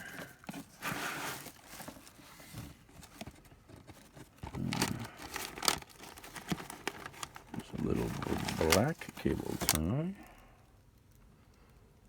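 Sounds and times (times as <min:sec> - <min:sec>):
plastic rustling: 0:00.0 - 0:10.4.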